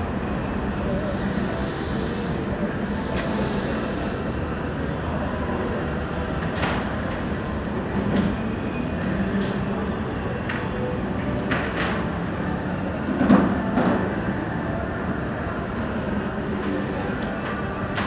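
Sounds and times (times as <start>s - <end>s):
indoor space rumble and hiss: 0.0s - 18.0s.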